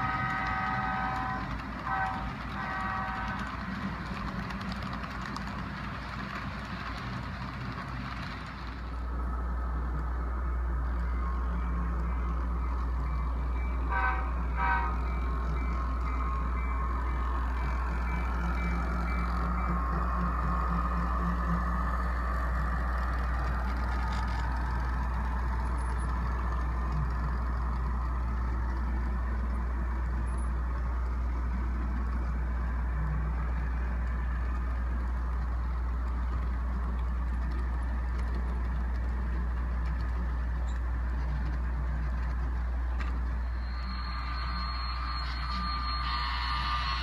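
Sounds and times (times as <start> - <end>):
diesel locomotive tone: 0.0 - 47.0
model train wheels rumbling on track: 0.0 - 47.0.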